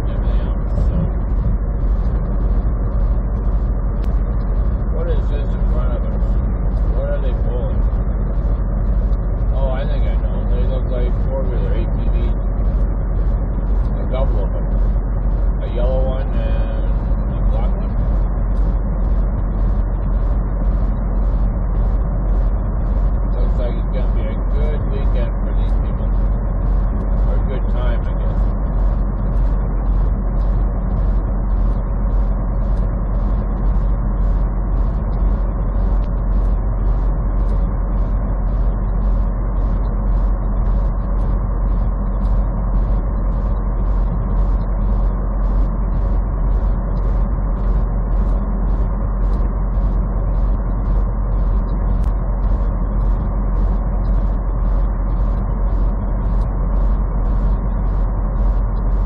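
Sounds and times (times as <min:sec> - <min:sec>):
light regular ticking: 0:00.0 - 0:59.0
truck engine rumble: 0:00.0 - 0:59.0.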